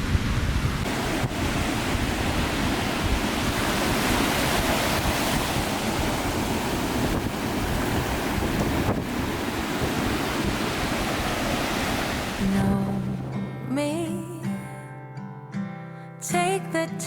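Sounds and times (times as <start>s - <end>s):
wind buffeting microphone: 0.0s - 13.8s
sea surf washing onto beach: 0.0s - 13.9s.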